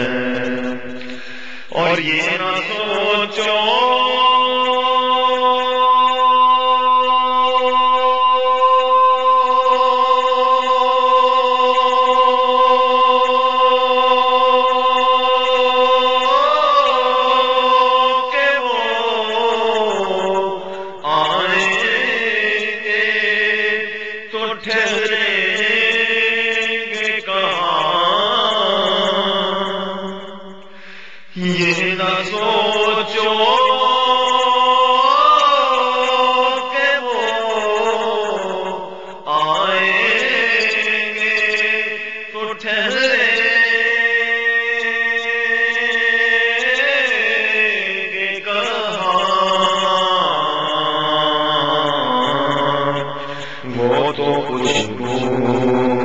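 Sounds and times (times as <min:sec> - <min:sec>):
person singing: 0:00.0 - 0:29.8, 0:31.3 - 0:56.0.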